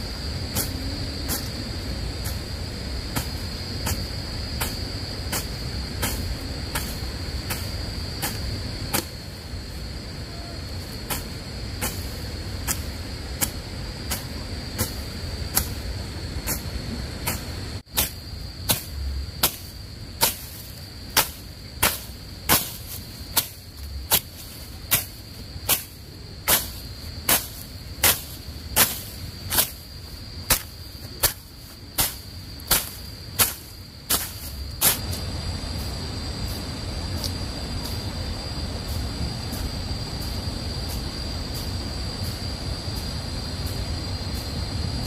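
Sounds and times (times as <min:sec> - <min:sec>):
high insect buzz: 0:00.0 - 0:45.0.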